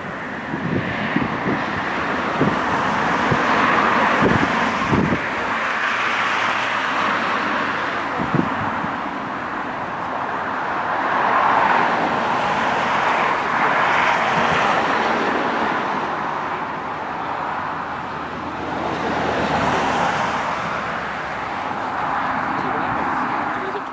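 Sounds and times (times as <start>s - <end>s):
jet engine roar: 0.0s - 23.9s.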